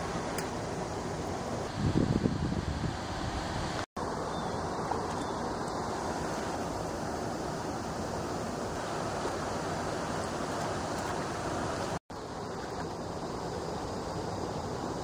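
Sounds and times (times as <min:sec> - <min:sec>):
rushing wind or water: 0:00.0 - 0:15.0.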